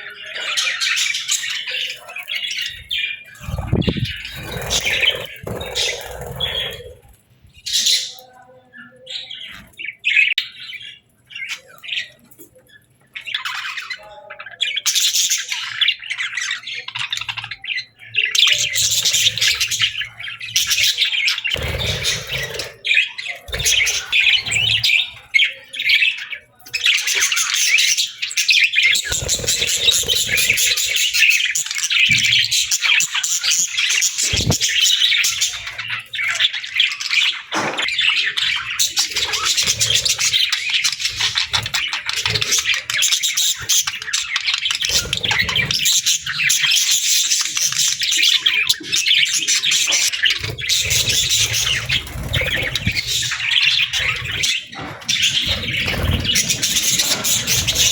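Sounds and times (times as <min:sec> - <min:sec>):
budgies chirping and chattering: 0:00.0 - 0:57.9.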